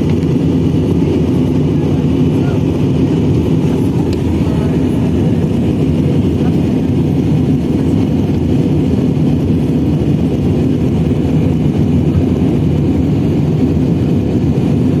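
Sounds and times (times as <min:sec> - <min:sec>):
aeroplane engine drone: 0:00.0 - 0:15.0.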